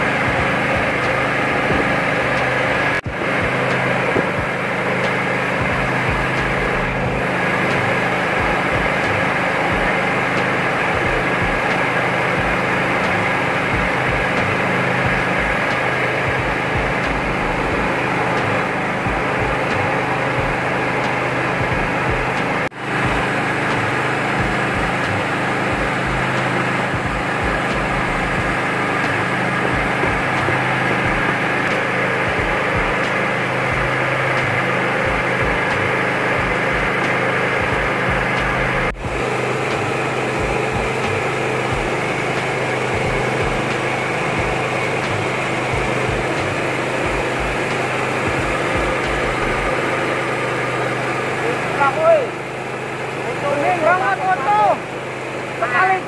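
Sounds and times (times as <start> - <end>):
motor hum: 0.0 - 56.0.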